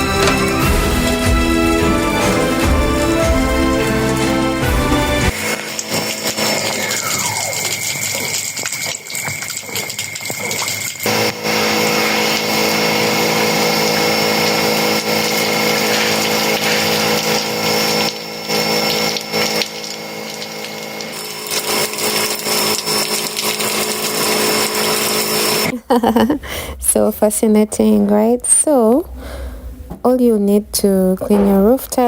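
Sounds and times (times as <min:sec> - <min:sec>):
high-pressure water jet hissing: 0:00.0 - 0:25.7
pressure washer motor and pump hum: 0:00.0 - 0:25.7.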